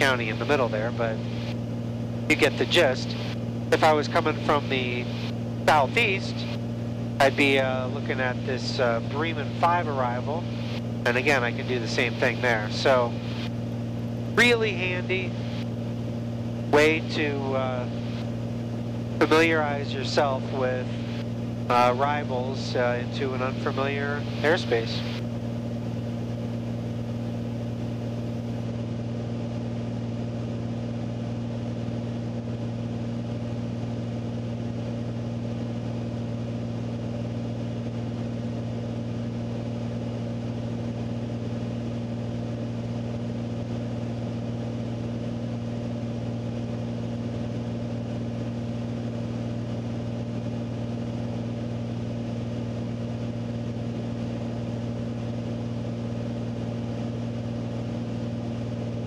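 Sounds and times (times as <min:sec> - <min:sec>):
aircraft engine droning in cabin: 0:00.0 - 0:59.0.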